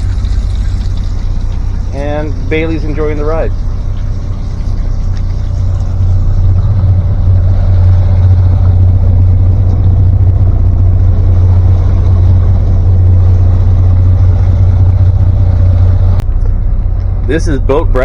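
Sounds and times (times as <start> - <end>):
powerboat engine drone: 0.0 - 18.0.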